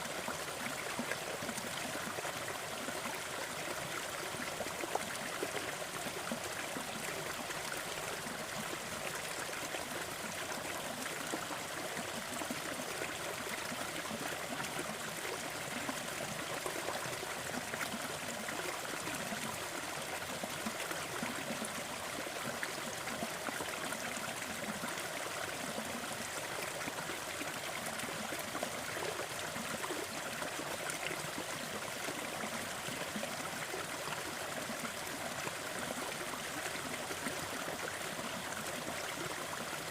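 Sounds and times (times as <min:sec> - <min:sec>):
waterfall and stream splashing: 0:00.0 - 0:39.9.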